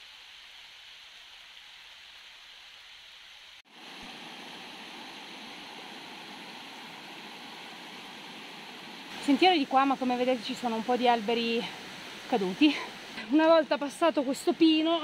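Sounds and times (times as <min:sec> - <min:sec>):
stream splashing over rocks: 0:00.0 - 0:15.0.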